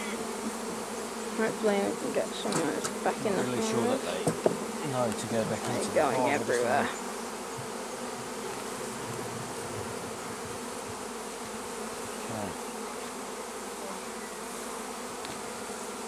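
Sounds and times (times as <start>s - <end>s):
buzz falling in pitch: 0.0s - 16.0s
honeybees buzzing: 0.0s - 16.0s.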